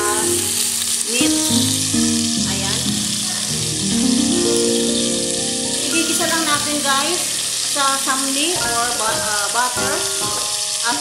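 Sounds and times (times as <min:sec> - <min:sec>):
background music with melody: 0:00.0 - 0:11.0
beef sizzling in butter: 0:00.0 - 0:11.0.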